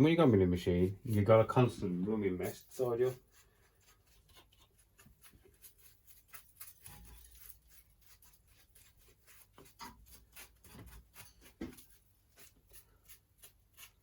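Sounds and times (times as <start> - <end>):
scratchy rubbing and ticking: 0.0 - 14.0.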